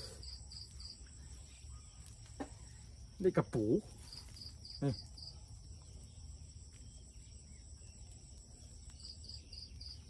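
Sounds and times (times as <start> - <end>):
high insect chirps: 0.0 - 10.0
insects trilling: 0.0 - 10.0.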